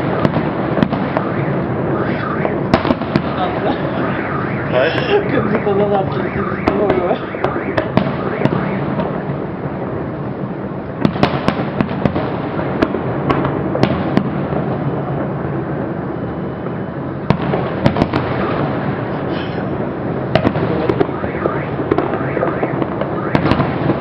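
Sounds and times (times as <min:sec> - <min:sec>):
sharp firework cracks: 0:00.0 - 0:09.7, 0:10.9 - 0:15.4, 0:17.2 - 0:24.0
fireworks bursts and crackling: 0:00.0 - 0:24.0.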